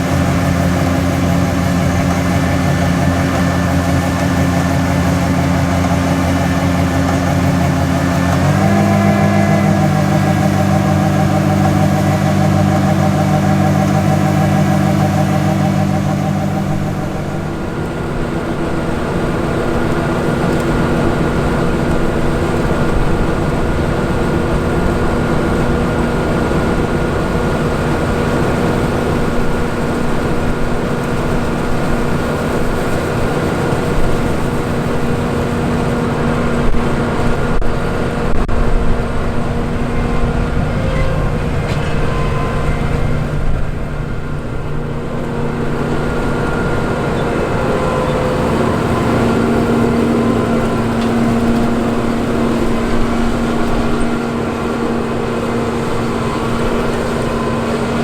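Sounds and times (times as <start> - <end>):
combine diesel engine: 0.0 - 58.0
whining tones: 0.0 - 58.0.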